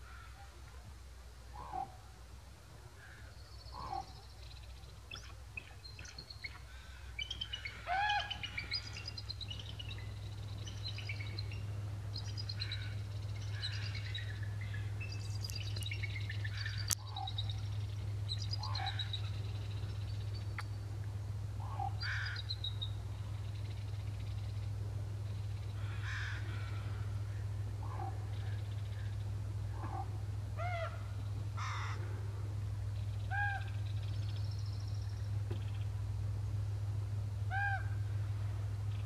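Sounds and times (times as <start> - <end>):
steady low hum: 0.0 - 39.0
eagles chittering calls: 1.5 - 2.1, 3.0 - 36.0, 37.4 - 39.0
lower single bird calls: 1.5 - 2.1, 3.0 - 20.8, 21.6 - 32.4, 33.0 - 36.0, 37.4 - 39.0.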